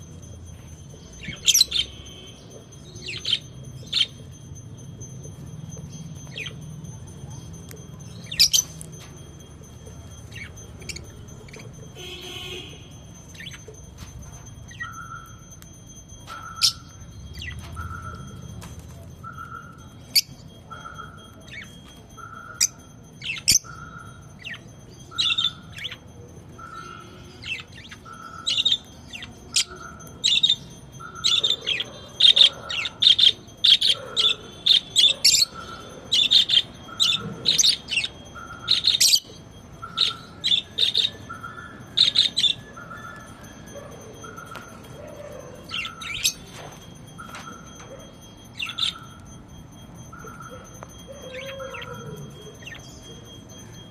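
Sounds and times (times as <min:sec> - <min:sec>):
parrots chirping: 0:00.0 - 0:53.9.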